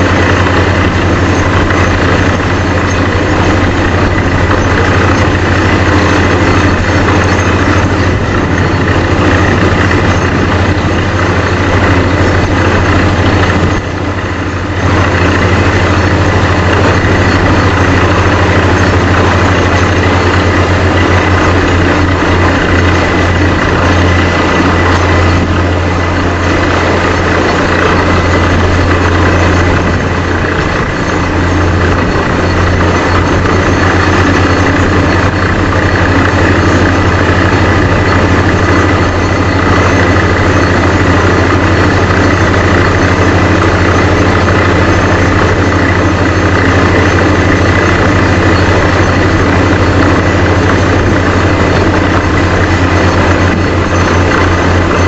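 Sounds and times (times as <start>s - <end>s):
compressor and drill rig running: 0.0s - 55.0s.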